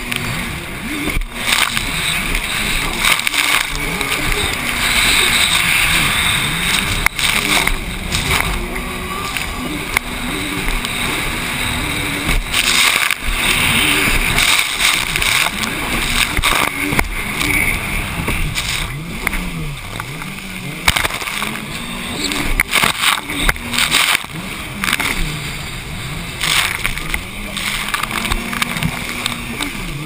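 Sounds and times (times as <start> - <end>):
hull slamming waves: 0.0 - 30.0
jet ski engine running hard: 0.0 - 30.0
rushing water spray: 0.0 - 30.0
wind noise on microphone: 0.0 - 30.0.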